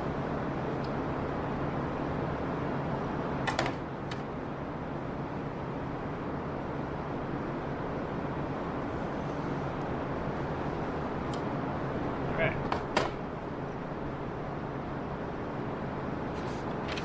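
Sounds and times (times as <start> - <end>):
workshop hum: 0.0 - 17.0.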